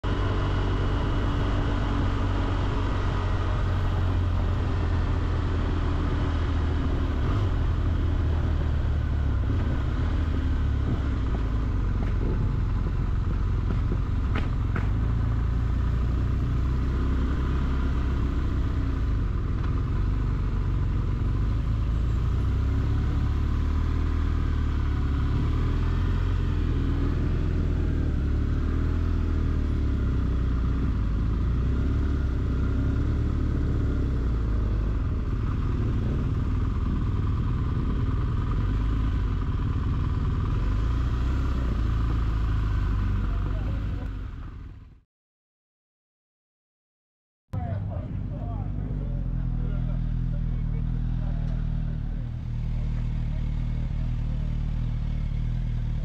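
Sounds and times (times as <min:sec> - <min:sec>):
motorcycle engine running: 0:00.0 - 0:45.0, 0:47.6 - 0:56.0.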